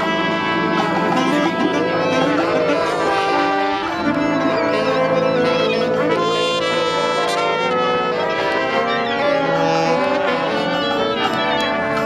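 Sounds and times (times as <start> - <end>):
accordion: 0.0 - 12.0
brass street band playing: 0.0 - 12.0.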